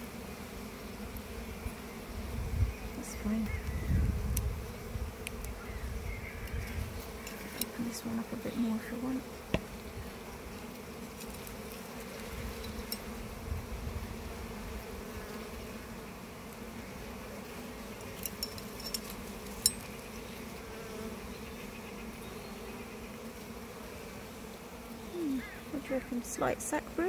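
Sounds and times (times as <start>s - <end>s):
honey bees humming: 0.0s - 27.0s.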